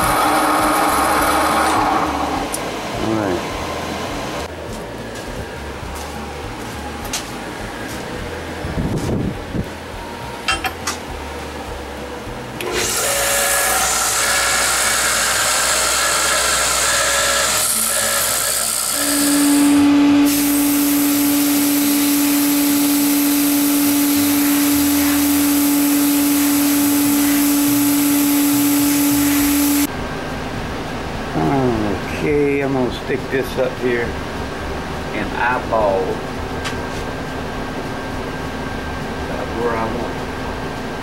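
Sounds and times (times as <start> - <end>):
steady low hum: 0.7 - 12.8, 19.4 - 41.0.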